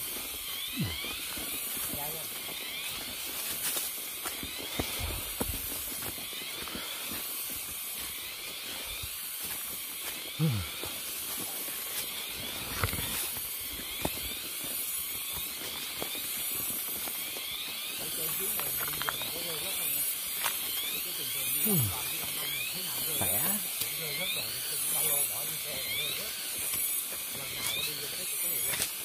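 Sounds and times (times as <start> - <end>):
footsteps through undergrowth: 0.0 - 29.0
forest background hiss: 0.0 - 29.0.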